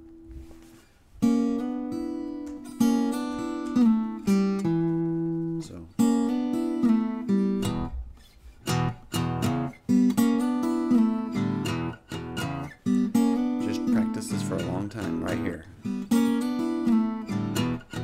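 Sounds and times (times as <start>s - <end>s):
acoustic blues guitar: 0.0s - 18.0s.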